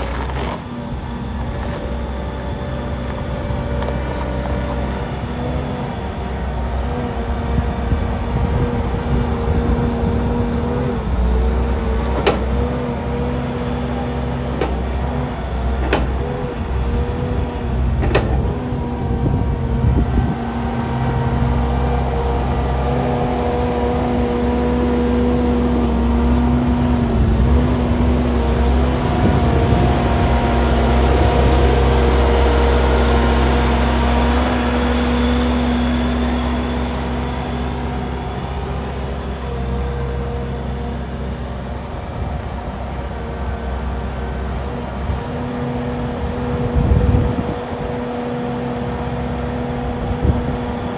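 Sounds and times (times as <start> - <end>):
skid steer diesel engine running: 0.0 - 50.9.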